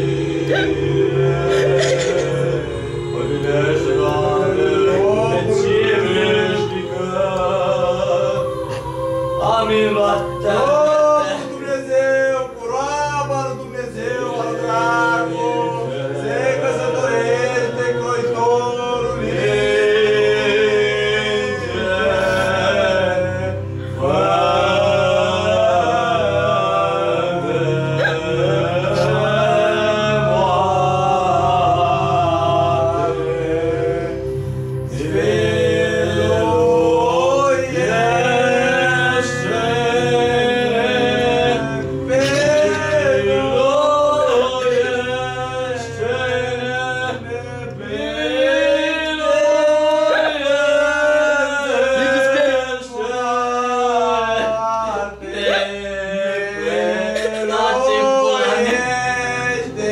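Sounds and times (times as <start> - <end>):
men singing a slow chant: 0.0 - 59.9.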